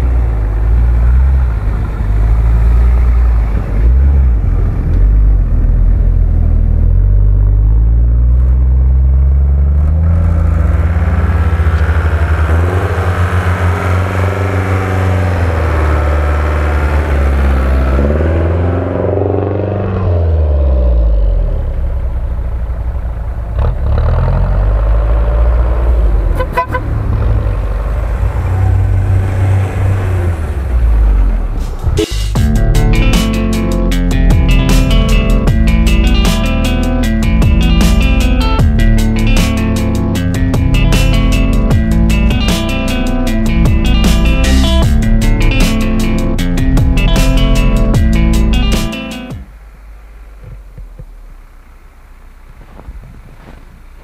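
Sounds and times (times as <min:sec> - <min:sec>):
off-road vehicle engines revving: 0:00.0 - 0:49.2.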